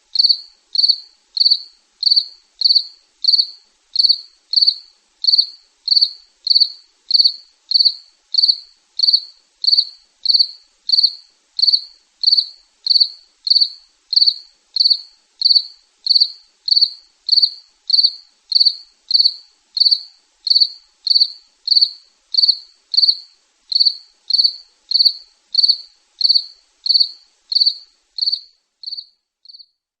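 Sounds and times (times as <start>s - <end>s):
cricket chirping: 0.1s - 29.8s.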